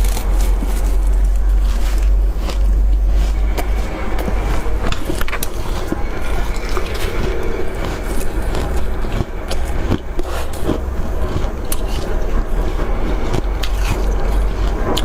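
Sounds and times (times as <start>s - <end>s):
frost crunching: 0.0s - 15.0s
steady low rumble: 0.0s - 15.0s.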